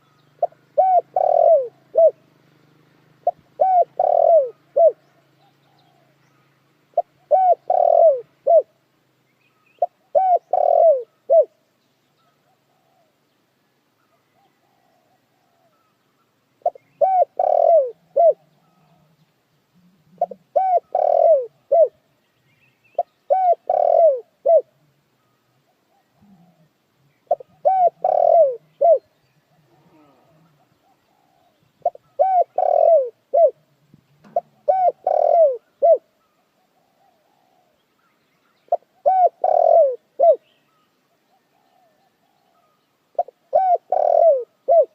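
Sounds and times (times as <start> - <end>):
dove cooing: 0.0 - 2.4, 3.1 - 8.8, 9.8 - 11.6, 12.2 - 13.2, 14.1 - 15.9, 16.6 - 22.0, 23.0 - 37.8, 38.7 - 44.9.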